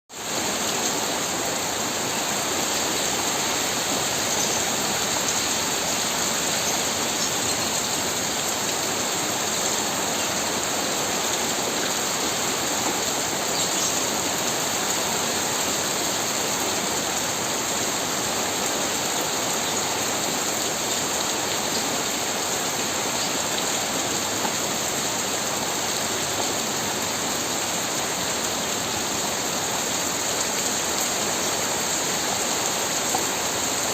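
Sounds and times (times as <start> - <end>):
pouring rain: 0.1 - 33.9.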